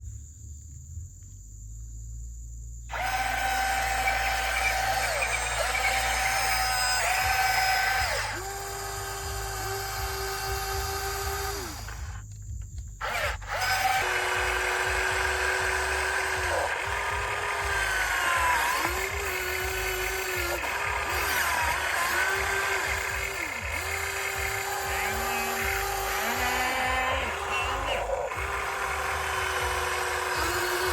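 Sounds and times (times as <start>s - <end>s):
electric pump motor whining: 2.9s - 30.9s.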